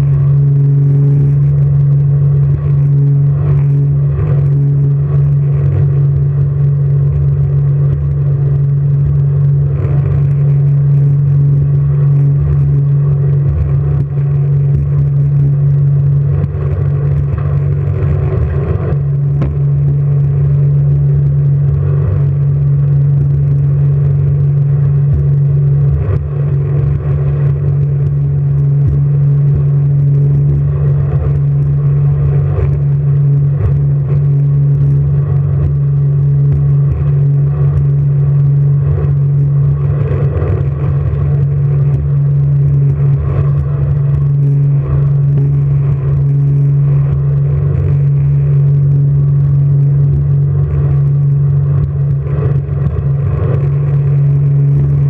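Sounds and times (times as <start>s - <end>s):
jet boat engine drone: 0.0s - 55.0s.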